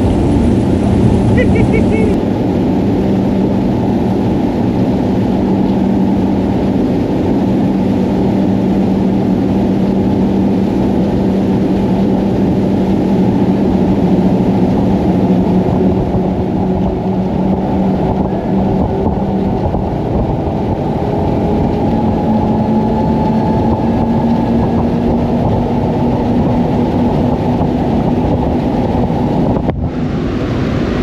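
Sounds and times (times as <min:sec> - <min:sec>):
outboard motors droning: 0:00.0 - 0:31.0
rush of wind and water: 0:00.0 - 0:31.0.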